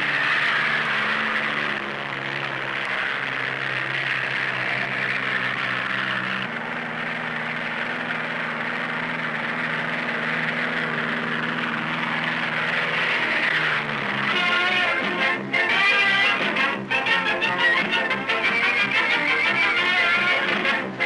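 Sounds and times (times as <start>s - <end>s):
old film soundtrack hiss: 0.0s - 21.0s
propeller aircraft engine droning: 0.0s - 21.0s.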